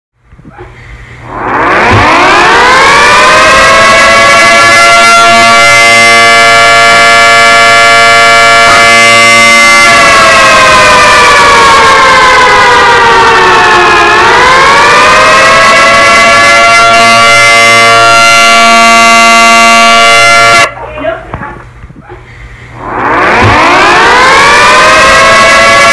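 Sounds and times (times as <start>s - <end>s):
civil defense siren wailing: 1.2s - 20.8s, 22.8s - 25.9s.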